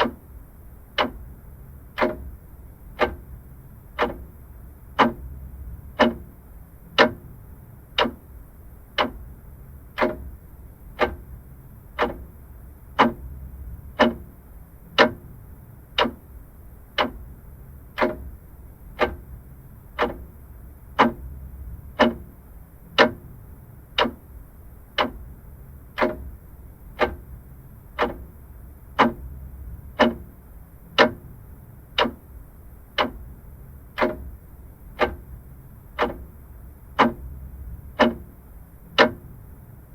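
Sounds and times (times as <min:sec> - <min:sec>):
mechanical clock ticking: 0:00.0 - 0:39.7.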